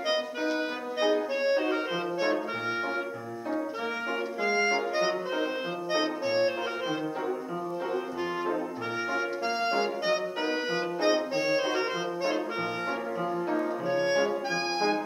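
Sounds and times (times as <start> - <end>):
clarinet playing lively melody: 0.0 - 15.0
upright piano: 0.0 - 15.0.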